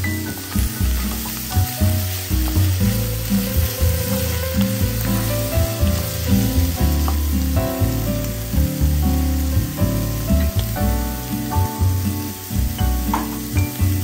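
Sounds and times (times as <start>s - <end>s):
background music with bass: 0.0s - 14.0s
mushrooms sizzling in a pan: 0.0s - 14.0s.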